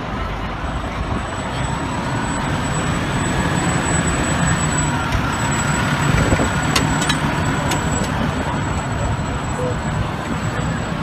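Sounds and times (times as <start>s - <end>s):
heavy vehicle engine drone: 0.0s - 11.0s
traffic noise: 0.0s - 11.0s.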